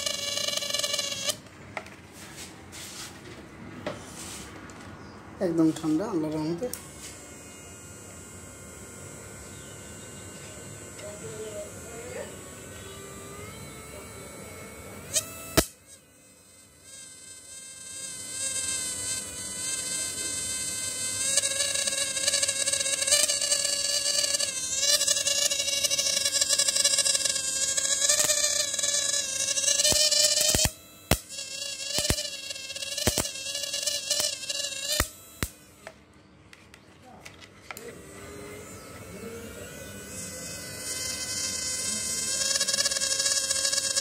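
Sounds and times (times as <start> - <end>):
high-pitched electrical whine: 0.0 - 1.6, 5.0 - 36.0, 37.7 - 44.0.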